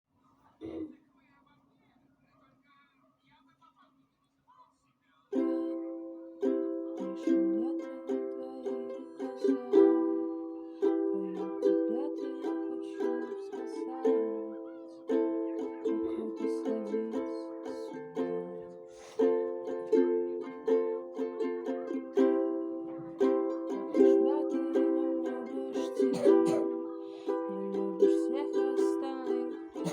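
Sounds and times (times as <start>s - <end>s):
ukulele strummed chords: 5.3s - 29.9s.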